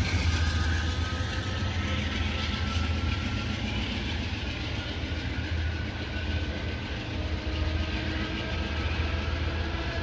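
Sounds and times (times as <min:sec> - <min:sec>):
diesel locomotive engine rumbling: 0:00.0 - 0:10.0
train noise: 0:00.0 - 0:10.0.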